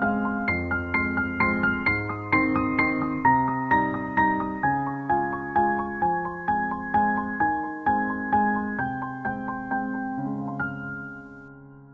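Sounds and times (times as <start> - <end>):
slow piano notes: 0.0 - 11.9.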